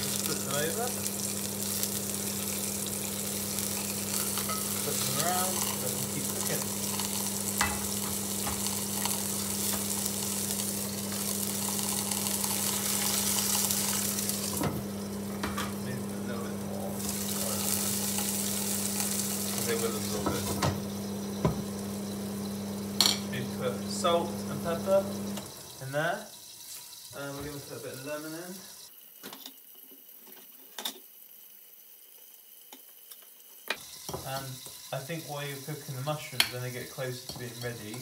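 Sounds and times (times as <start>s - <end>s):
mushrooms sizzling in a pan: 0.0s - 38.0s.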